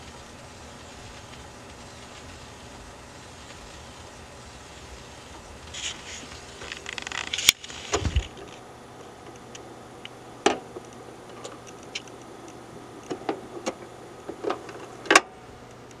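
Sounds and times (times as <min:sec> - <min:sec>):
vinyl surface noise with clicks: 0:00.0 - 0:16.0.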